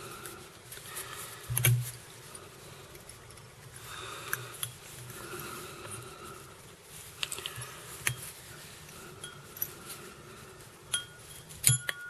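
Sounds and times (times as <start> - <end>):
small clicks and rustles: 0.0 - 12.0.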